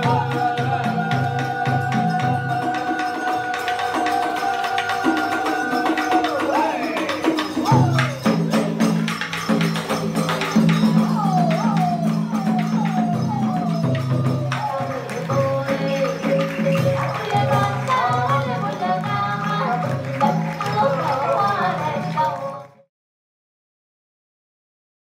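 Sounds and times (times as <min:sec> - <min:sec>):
hand percussion: 0:00.0 - 0:22.9.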